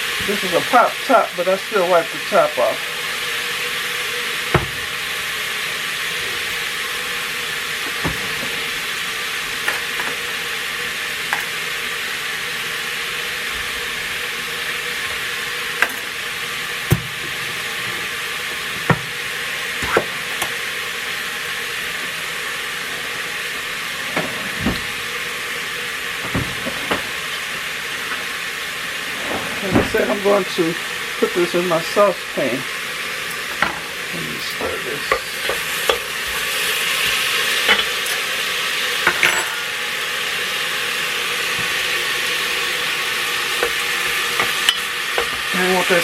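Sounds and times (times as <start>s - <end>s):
meat sizzling: 0.0s - 46.0s.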